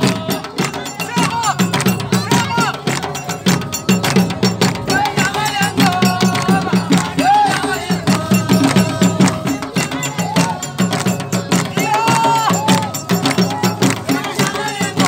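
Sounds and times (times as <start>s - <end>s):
fast steady drumming: 0.0s - 15.0s.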